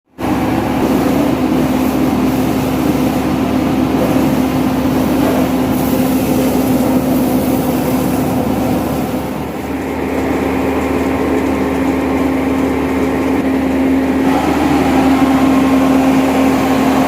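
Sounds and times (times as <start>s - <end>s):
concrete mixer engine running: 0.0s - 17.0s.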